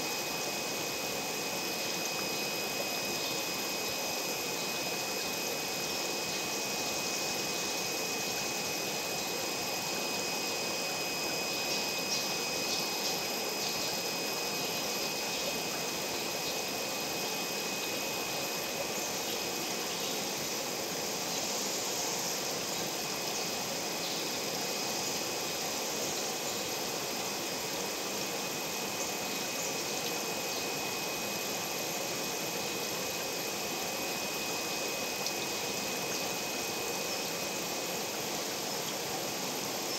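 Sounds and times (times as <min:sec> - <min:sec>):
high-pitched whine: 0:00.0 - 0:39.9
water pump running: 0:00.0 - 0:39.9
running water: 0:00.1 - 0:39.9.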